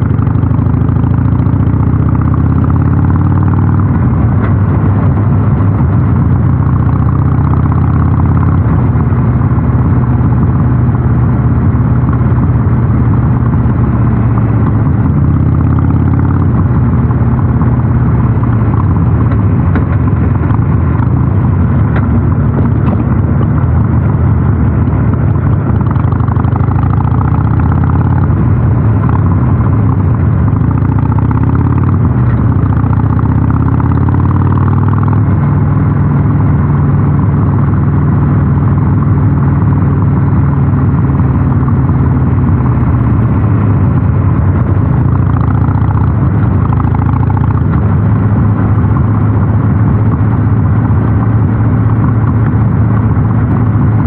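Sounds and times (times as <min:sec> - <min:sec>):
motorcycle exhaust revving: 0:00.0 - 0:54.0.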